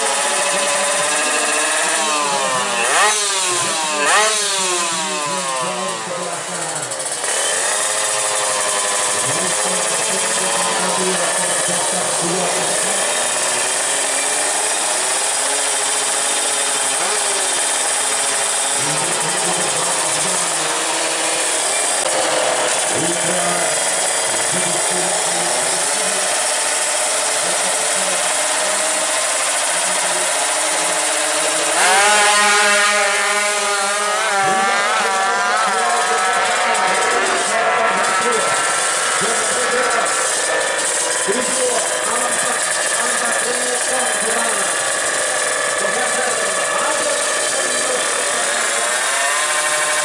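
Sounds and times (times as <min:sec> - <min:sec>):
two-stroke engines revving: 0:00.0 - 0:50.0.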